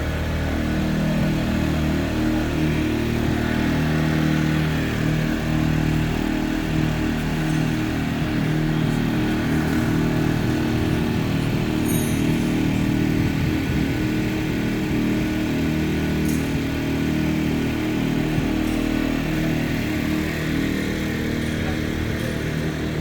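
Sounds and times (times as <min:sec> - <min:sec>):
generator engine running: 0:00.0 - 0:23.0.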